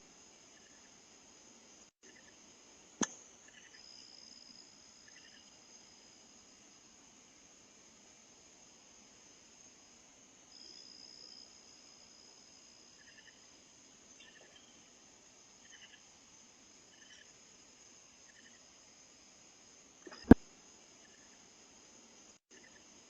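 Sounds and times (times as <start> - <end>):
crickets trilling: 0.0 - 2.6, 3.3 - 23.0.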